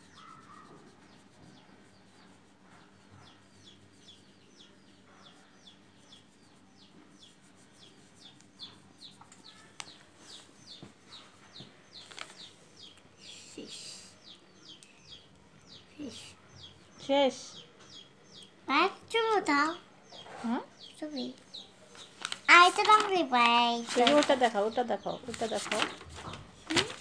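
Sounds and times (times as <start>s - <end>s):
small bird chirping: 0.0s - 27.0s.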